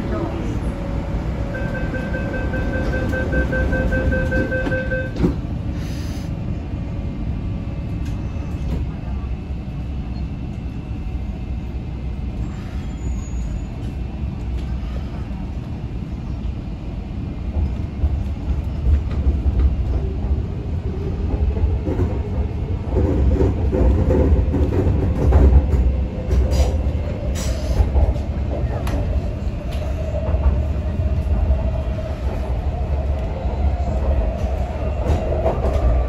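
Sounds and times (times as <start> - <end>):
train low rumble: 0.0 - 36.0.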